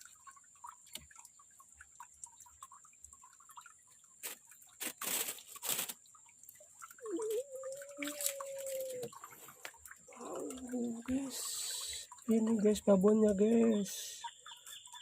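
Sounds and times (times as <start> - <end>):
water dripping: 0.0 - 15.0
water splashes: 0.0 - 15.0.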